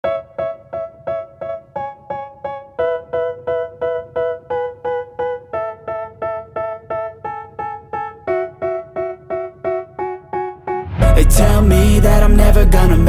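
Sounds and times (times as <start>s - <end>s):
piano repeated chords: 0.0s - 13.0s.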